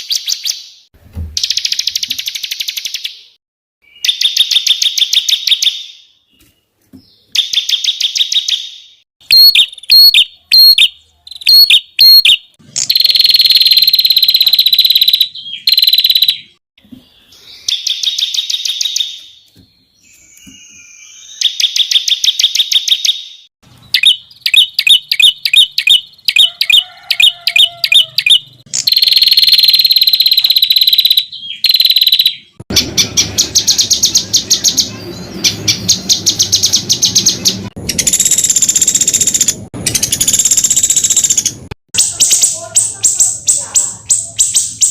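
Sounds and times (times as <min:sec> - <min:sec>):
songbirds trilling: 0:07.2 - 0:44.9.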